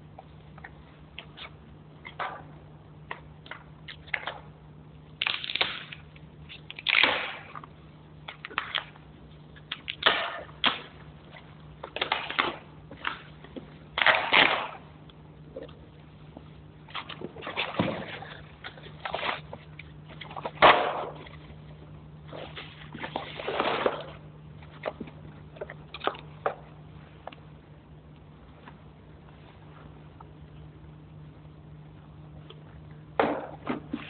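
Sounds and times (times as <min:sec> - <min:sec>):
faint steady low hum: 0:00.0 - 0:34.0.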